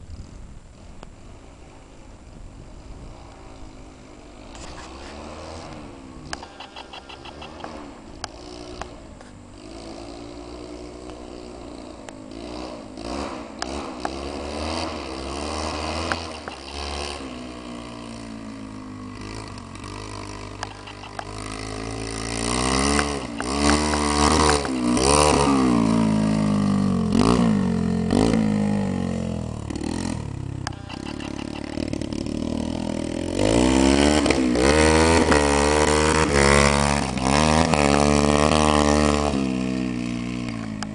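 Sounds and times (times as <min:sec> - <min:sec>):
dirt bike engine revving: 0:02.7 - 0:40.9.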